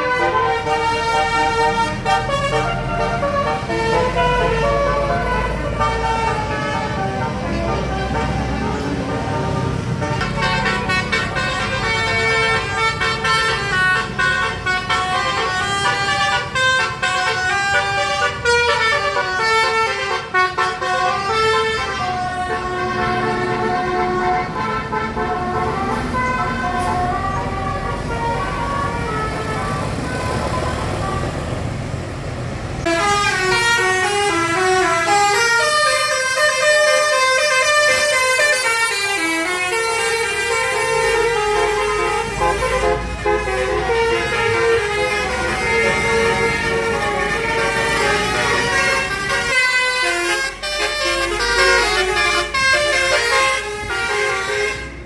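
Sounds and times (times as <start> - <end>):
multi-tone bus horn melody: 0.0 - 31.9, 32.8 - 55.0
bus engine running: 0.0 - 55.0.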